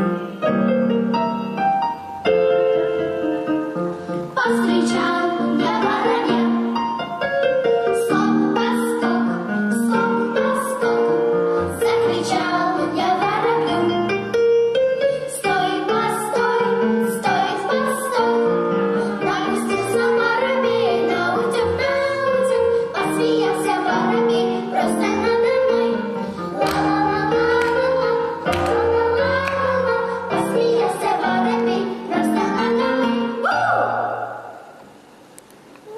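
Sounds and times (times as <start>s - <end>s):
piano accompaniment: 0.0s - 35.0s
girls singing in harmony: 4.3s - 14.4s, 15.0s - 34.8s.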